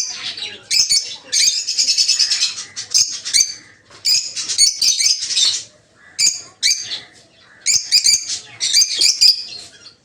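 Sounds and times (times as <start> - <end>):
lovebirds chirping shrilly: 0.0 - 10.0.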